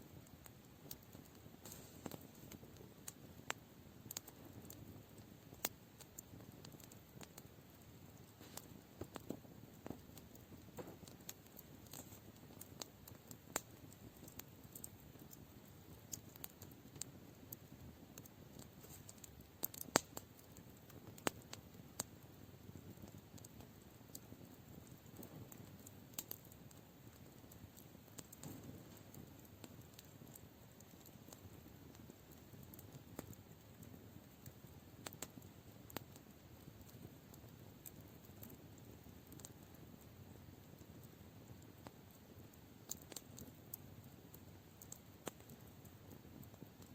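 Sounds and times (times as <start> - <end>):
campfire crackling and popping: 0.0 - 46.9
low fire hiss: 0.0 - 46.9.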